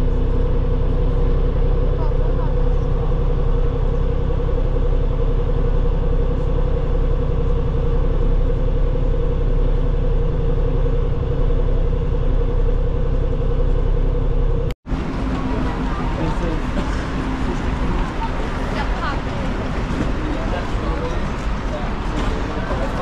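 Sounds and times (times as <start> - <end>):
constant hum: 0.0 - 23.0
vehicle engine and road rumble: 0.0 - 23.0.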